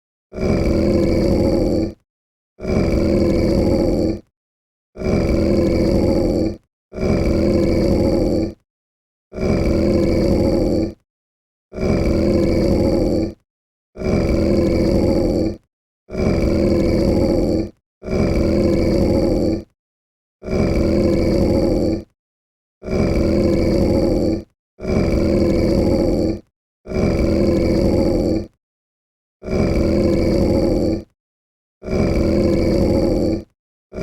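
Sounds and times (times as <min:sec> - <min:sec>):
monster growling: 0:00.3 - 0:02.0, 0:02.6 - 0:04.3, 0:05.0 - 0:08.6, 0:09.3 - 0:11.0, 0:11.7 - 0:13.4, 0:14.0 - 0:19.8, 0:20.4 - 0:22.2, 0:22.8 - 0:28.6, 0:29.4 - 0:31.2, 0:31.8 - 0:34.0.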